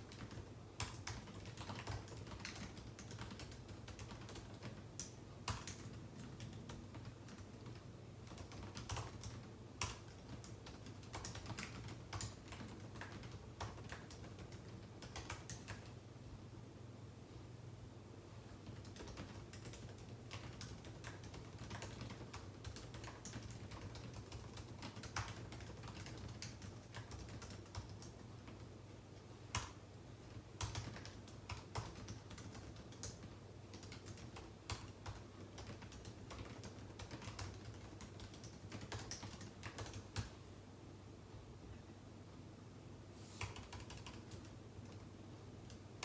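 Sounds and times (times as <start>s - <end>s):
typing on computer keyboard: 0.0s - 16.0s, 18.6s - 28.8s, 29.5s - 40.4s, 43.4s - 46.0s
faint low hum: 0.0s - 46.0s.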